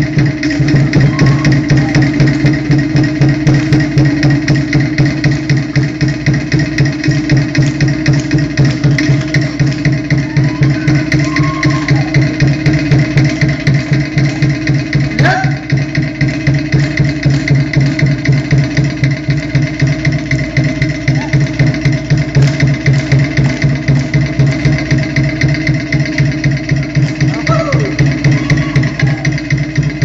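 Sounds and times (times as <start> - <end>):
struck percussion with fast beat: 0.0 - 30.0.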